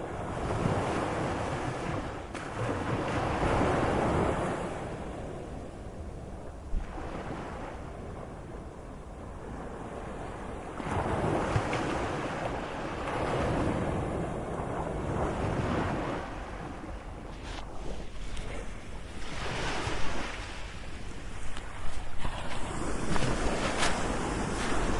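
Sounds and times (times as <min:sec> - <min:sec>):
low rumble of wind: 0:00.0 - 0:24.9
sea waves washing and surging: 0:00.0 - 0:24.9.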